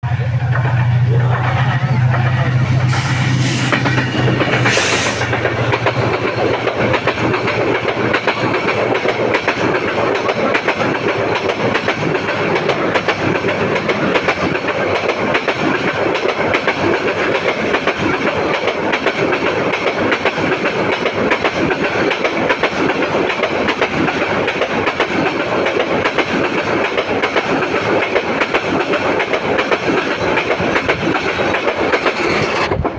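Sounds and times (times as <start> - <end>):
train wheels rattling on rails: 0.0 - 32.9.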